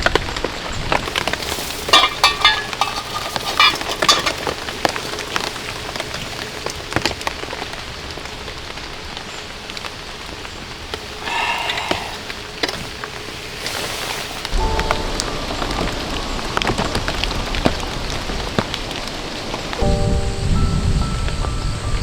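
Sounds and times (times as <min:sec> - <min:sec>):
rain drops tapping: 0:00.0 - 0:22.0.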